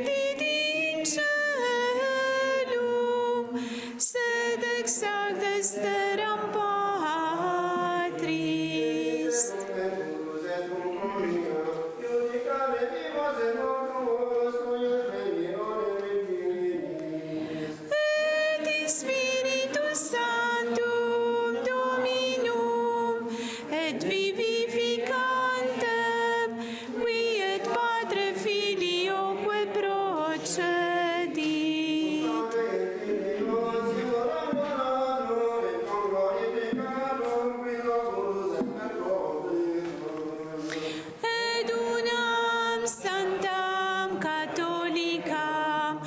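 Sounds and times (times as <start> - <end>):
voices singing a chant: 0.0 - 46.0.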